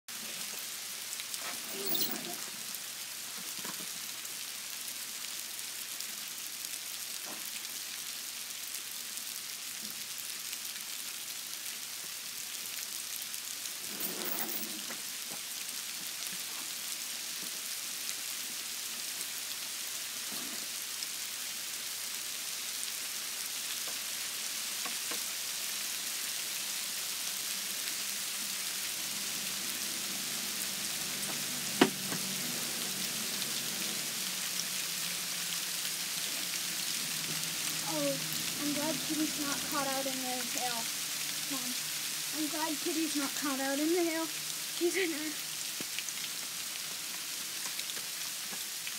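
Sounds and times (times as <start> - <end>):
hail hissing on vegetation: 0.1 - 48.9.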